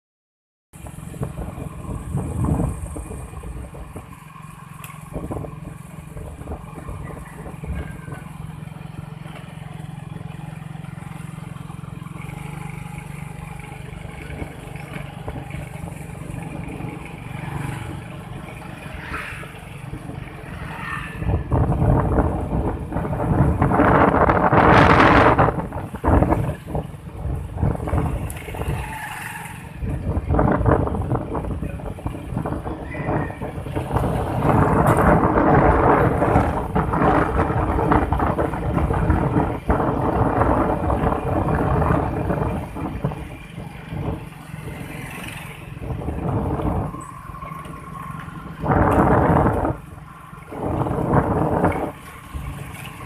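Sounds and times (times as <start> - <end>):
wind rumbling on microphone: 0.8 - 4.4, 5.0 - 11.4, 12.2 - 53.0.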